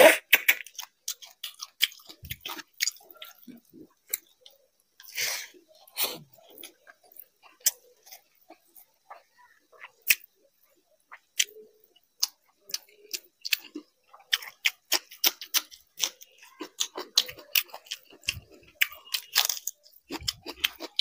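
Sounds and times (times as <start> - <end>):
wet chewing and smacking: 0.3 - 5.1, 5.9 - 10.4, 11.0 - 21.0.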